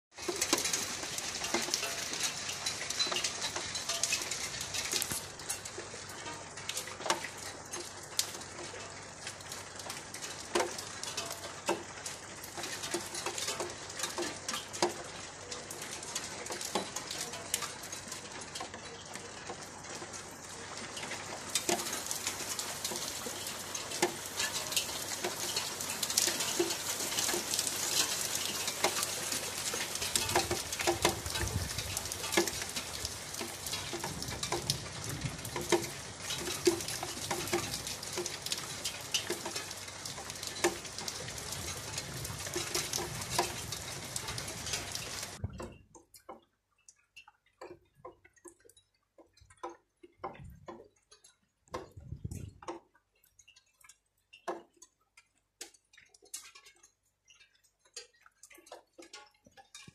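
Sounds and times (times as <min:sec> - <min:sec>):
rain falling: 0:00.1 - 0:59.9.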